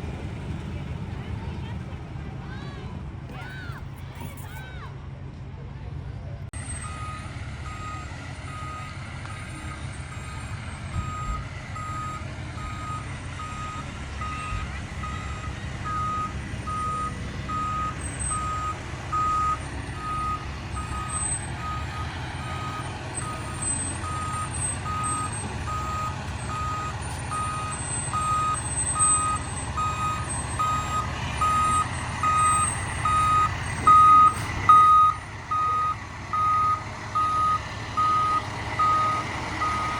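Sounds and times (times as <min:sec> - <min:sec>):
truck engine rumbling: 0:00.0 - 0:39.9
truck back-up alarm beeping: 0:06.6 - 0:39.9.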